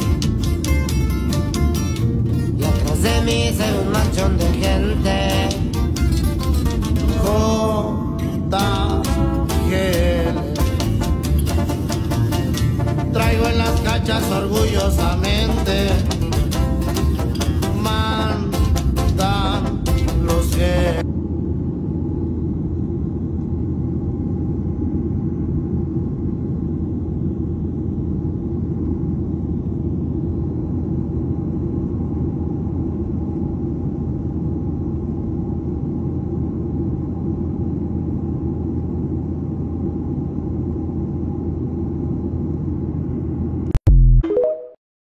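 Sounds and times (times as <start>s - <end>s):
airliner engines and airflow rush: 0.0s - 43.8s
faint steady hum: 0.0s - 43.8s.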